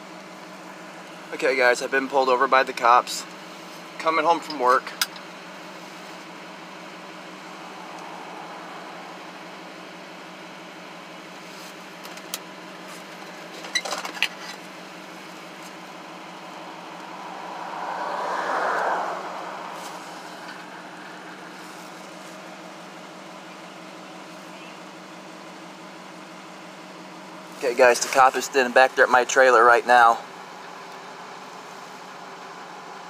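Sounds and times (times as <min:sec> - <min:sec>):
truck engine idling: 0:00.0 - 0:18.0, 0:19.1 - 0:33.0.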